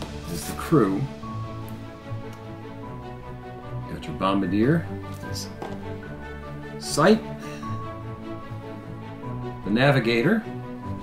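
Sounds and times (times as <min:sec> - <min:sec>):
soft held-tone background music: 0:00.0 - 0:11.0.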